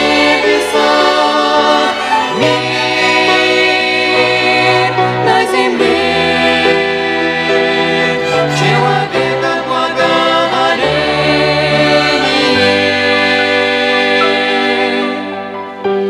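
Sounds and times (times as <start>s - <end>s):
instrumental accompaniment: 0.0s - 16.0s
small choir singing a hymn: 0.0s - 16.0s.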